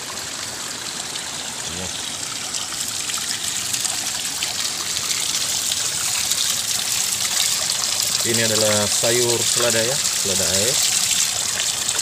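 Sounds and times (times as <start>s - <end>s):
water splashing onto stones: 0.9s - 12.0s.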